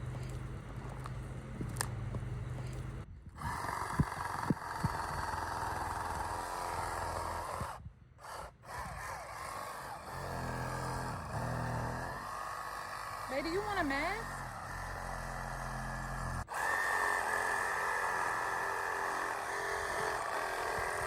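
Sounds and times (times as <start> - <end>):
reciprocating saw cutting wood: 0.0 - 21.0.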